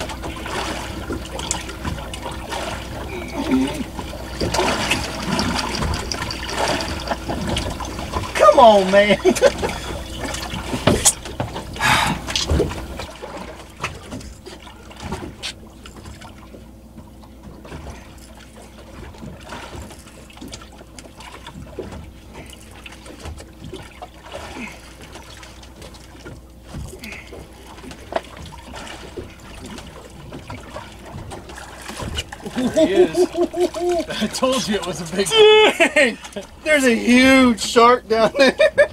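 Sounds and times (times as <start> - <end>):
faint steady hum: 0.0 - 38.9
waves lapping against boat hull: 0.0 - 38.9.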